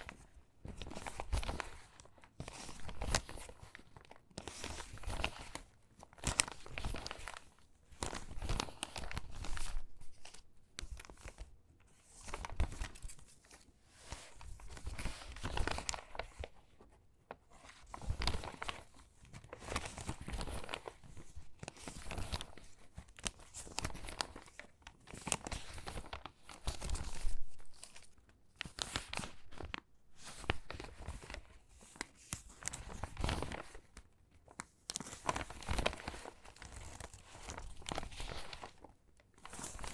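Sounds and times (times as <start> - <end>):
crinkly magazine pages rustling: 0.0 - 39.9.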